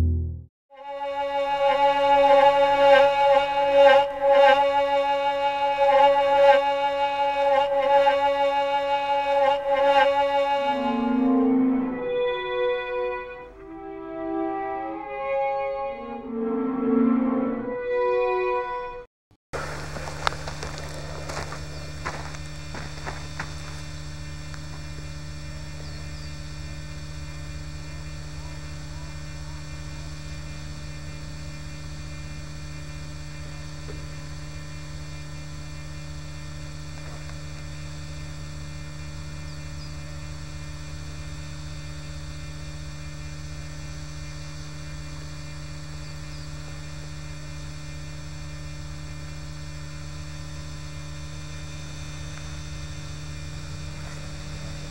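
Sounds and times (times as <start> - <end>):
electrical hum: 1.3 - 15.1, 19.6 - 54.9.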